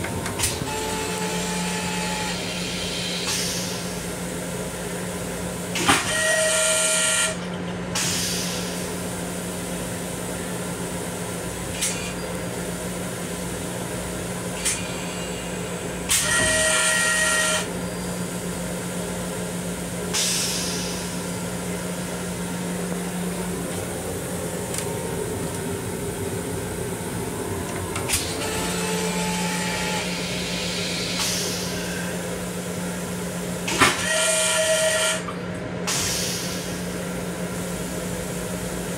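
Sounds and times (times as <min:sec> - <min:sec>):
railcar equipment hum: 0:00.0 - 0:38.9.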